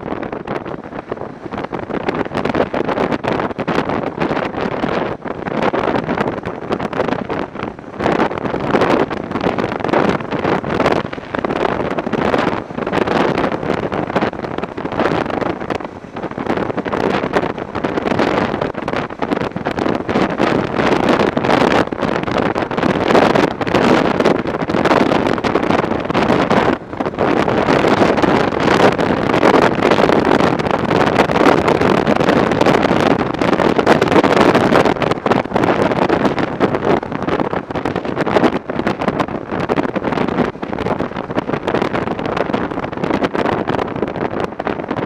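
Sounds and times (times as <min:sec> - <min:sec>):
motorcycle running and road noise: 0:00.0 - 0:45.0
wind buffeting microphone: 0:00.0 - 0:45.0.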